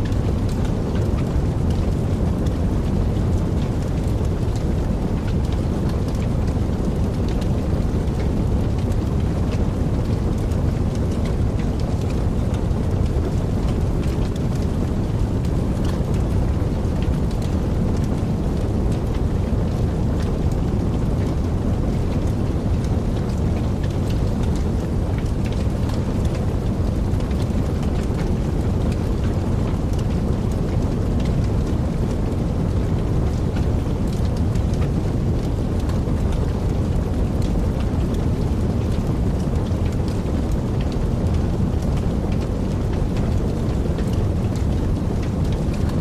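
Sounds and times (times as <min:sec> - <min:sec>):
fire crackling: 0:00.0 - 0:46.0
wood fire roaring: 0:00.0 - 0:46.0.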